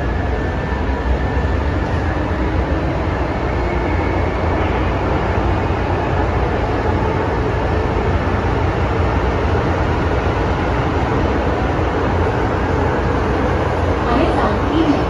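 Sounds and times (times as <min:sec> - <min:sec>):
subway car wheels rumbling: 0:00.0 - 0:15.0.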